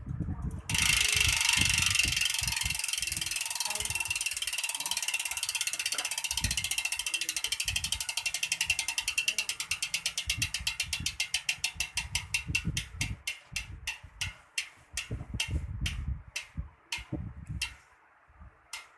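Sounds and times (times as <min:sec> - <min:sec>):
bicycle hub freewheel clicking: 0:00.5 - 0:17.8.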